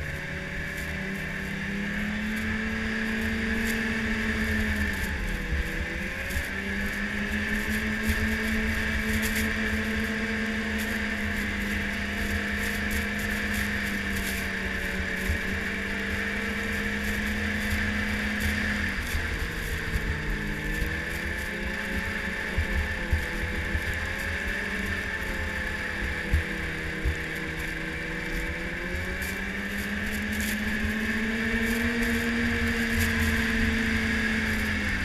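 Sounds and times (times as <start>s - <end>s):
snowmobile engine running: 0.0s - 35.0s
track and wind hiss: 0.0s - 35.0s.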